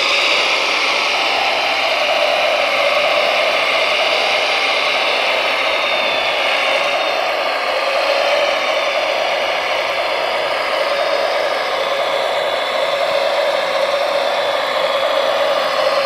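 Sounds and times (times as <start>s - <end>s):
electric drive motor running: 0.0s - 16.0s.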